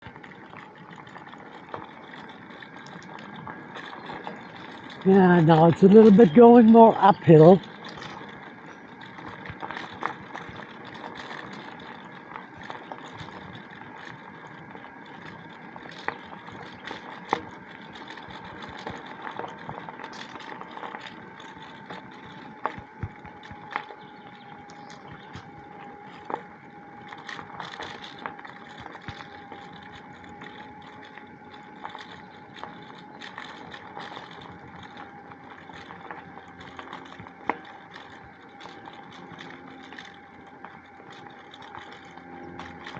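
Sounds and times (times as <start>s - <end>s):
bicycle tyres and drivetrain rolling: 0.0s - 42.9s
faint steady whine: 0.0s - 42.9s.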